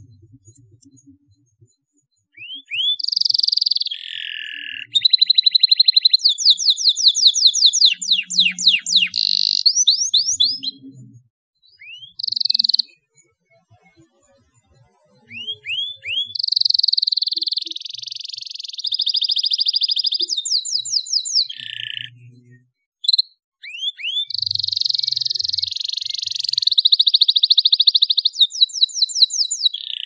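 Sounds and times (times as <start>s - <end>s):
canary singing: 0.0s - 13.3s, 15.0s - 30.0s.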